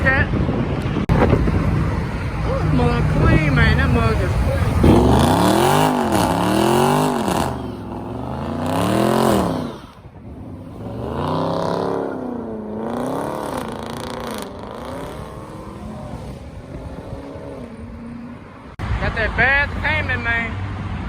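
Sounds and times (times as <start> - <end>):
car engine revving: 0.6 - 21.0.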